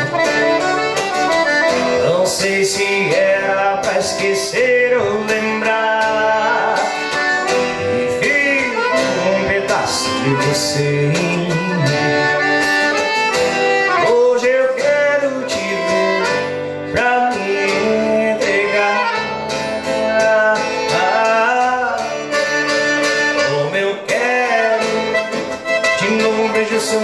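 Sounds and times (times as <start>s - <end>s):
guitar and accordion accompaniment: 0.0s - 27.0s
melodic lead with sliding notes: 0.0s - 27.0s.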